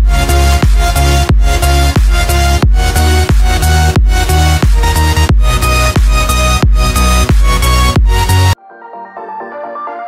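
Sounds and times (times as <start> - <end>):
heavy bass music with steady beat: 0.0 - 8.6.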